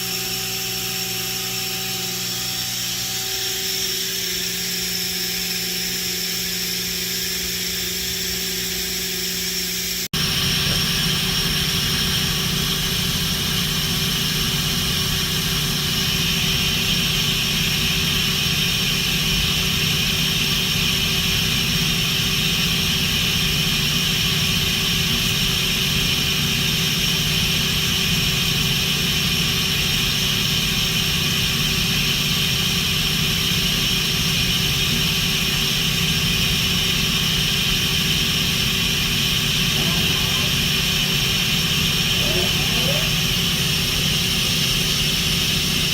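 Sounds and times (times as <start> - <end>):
machine hum with high whine: 0.0 - 45.9.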